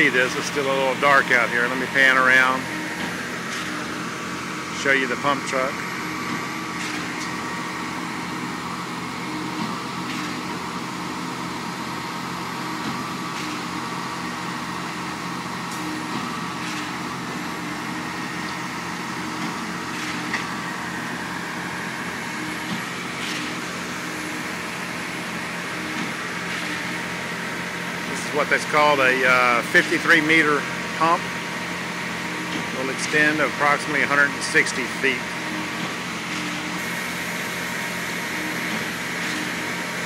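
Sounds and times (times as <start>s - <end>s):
diesel pump truck droning: 0.0s - 40.0s
mixer truck running: 0.0s - 40.0s.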